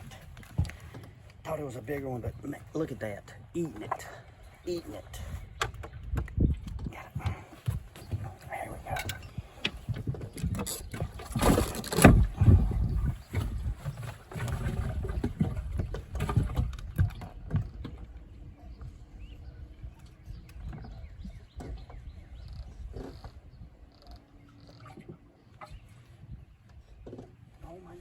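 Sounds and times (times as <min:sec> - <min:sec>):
knocks and rattles in boat: 0:00.0 - 0:28.0.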